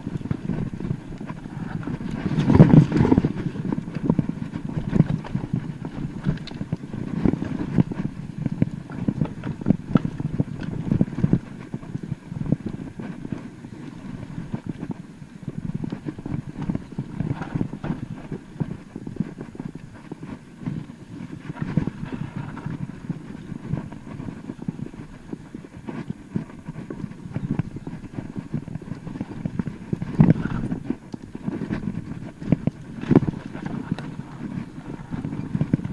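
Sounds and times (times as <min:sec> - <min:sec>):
mountain bike rattling over bumps: 0:00.0 - 0:35.9.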